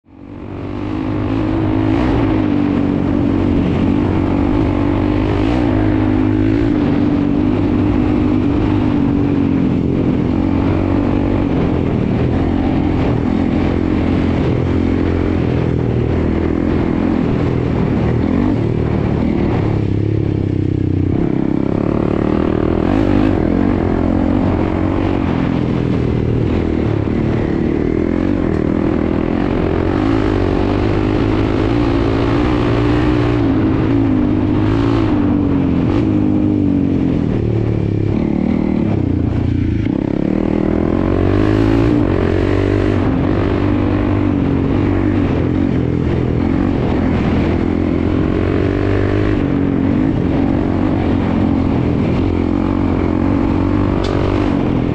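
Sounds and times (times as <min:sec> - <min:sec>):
dirt bike engine revving: 0:00.2 - 0:54.9.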